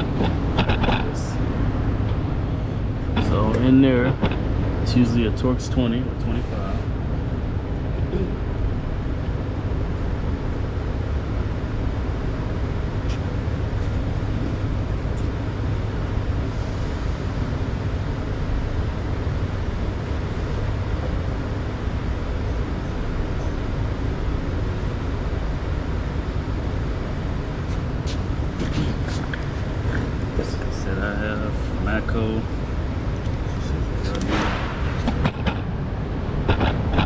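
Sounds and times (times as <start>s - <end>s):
low rumbling background noise: 0.0s - 37.0s.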